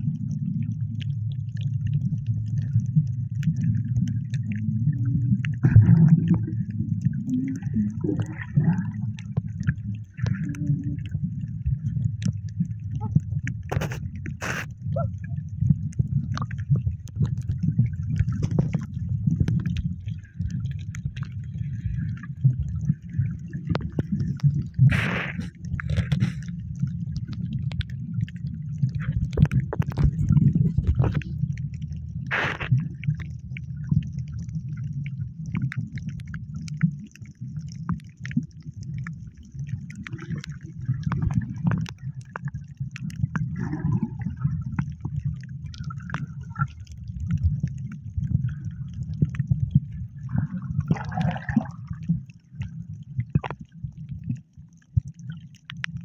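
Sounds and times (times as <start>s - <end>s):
underwater sloshing and bubbling: 0.0s - 56.0s.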